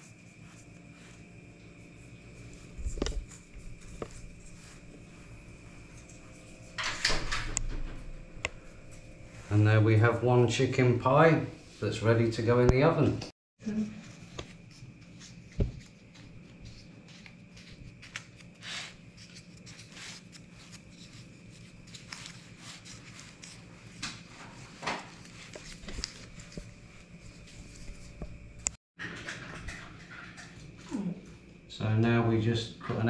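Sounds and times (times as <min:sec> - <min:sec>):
faint hum: 0:00.0 - 0:28.8.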